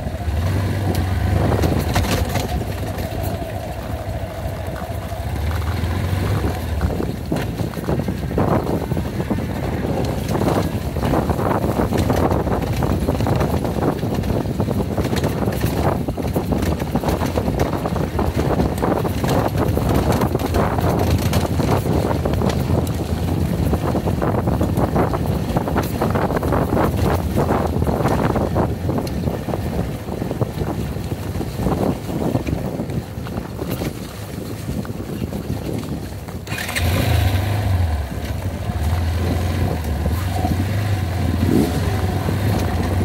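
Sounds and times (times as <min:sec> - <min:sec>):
motorcycle engine running: 0:00.0 - 0:43.0
wind buffeting microphone: 0:00.0 - 0:43.0
small knocks from riding: 0:00.4 - 0:43.0.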